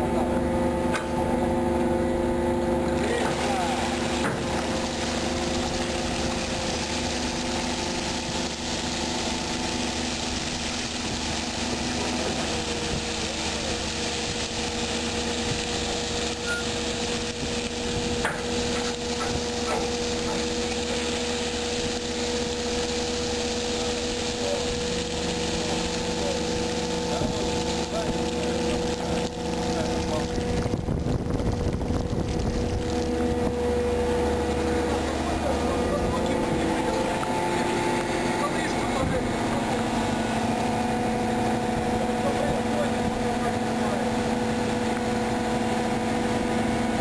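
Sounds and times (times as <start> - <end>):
ship machinery hum: 0.0 - 47.0
water splashing and pouring: 2.6 - 47.0.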